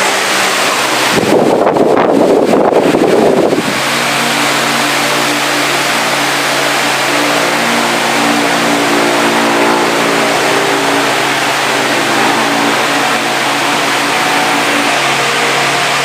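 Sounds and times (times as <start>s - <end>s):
electric fan air rush: 0.0s - 16.0s
low motor hum: 0.0s - 16.0s.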